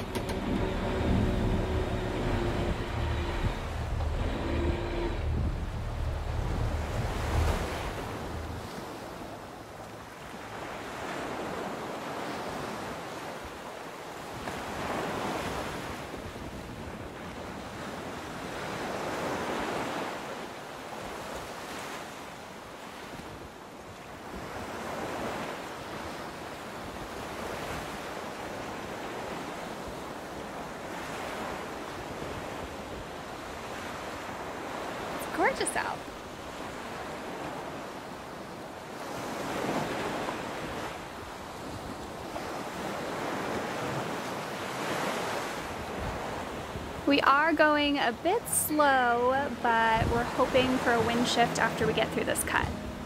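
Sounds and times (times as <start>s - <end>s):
water rushing along boat hulls: 0.0s - 53.0s.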